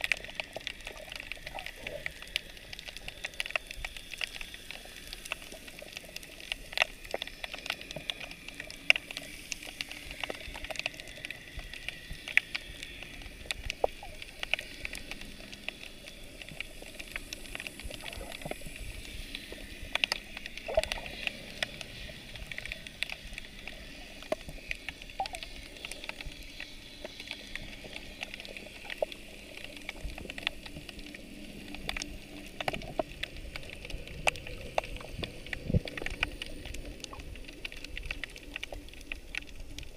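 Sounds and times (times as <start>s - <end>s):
sharp underwater clicks and crackles: 0.0s - 39.9s
underwater hiss: 0.0s - 39.9s.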